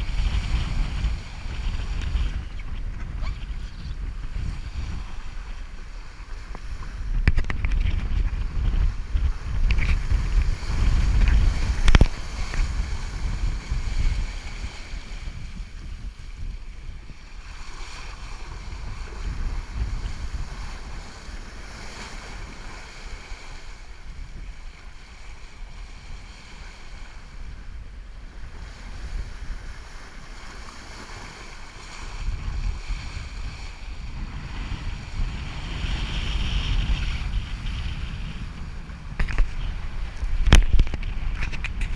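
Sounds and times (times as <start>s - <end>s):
sea water rushing past boat: 0.0s - 41.9s
wind buffeting microphone: 0.0s - 41.9s.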